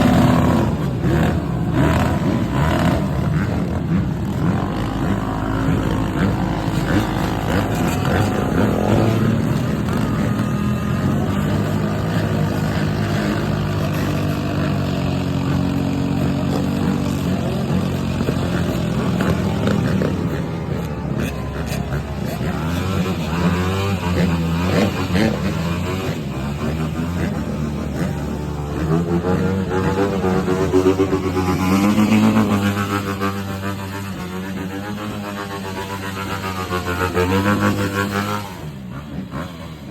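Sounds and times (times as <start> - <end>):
motorcycle engine revving: 0.0 - 39.9
motorcycle engines running: 0.0 - 39.9.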